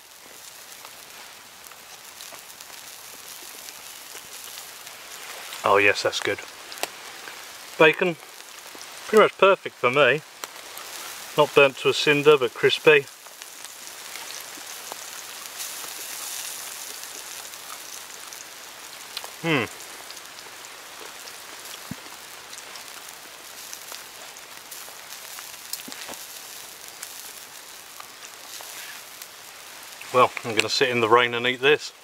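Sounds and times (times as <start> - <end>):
rain pattering in woodland: 0.0 - 32.0.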